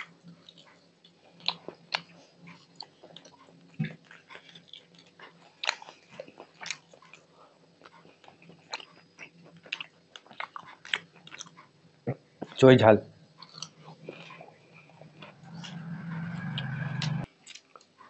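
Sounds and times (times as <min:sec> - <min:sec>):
wet chewing and lip smacks: 0:00.0 - 0:11.8, 0:13.3 - 0:16.1.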